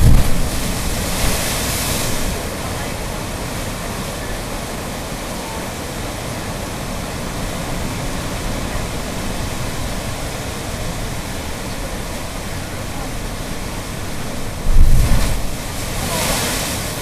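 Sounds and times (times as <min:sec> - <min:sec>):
ocean surf crashing on rocks: 0:00.0 - 0:17.0.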